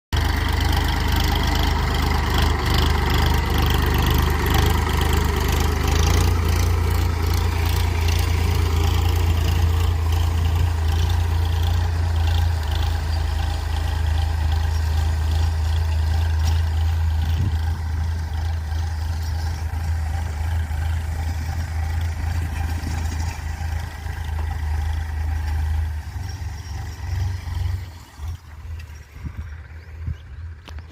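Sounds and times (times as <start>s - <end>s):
tractor engine droning: 0.1s - 30.9s.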